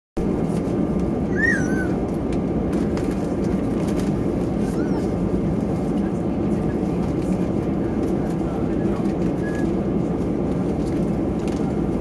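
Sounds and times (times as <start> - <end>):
aircraft cabin engine rumble: 0.2 - 12.0.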